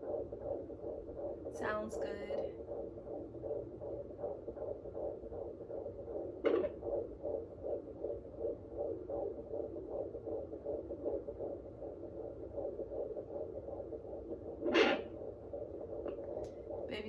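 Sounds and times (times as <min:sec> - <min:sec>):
fetal heartbeat whooshing pulses: 0:00.0 - 0:17.0.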